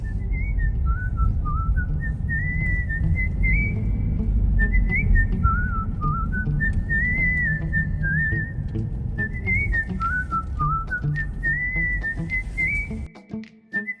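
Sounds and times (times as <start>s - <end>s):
steady low rumble: 0.0s - 13.1s
whistled melody: 0.0s - 14.0s.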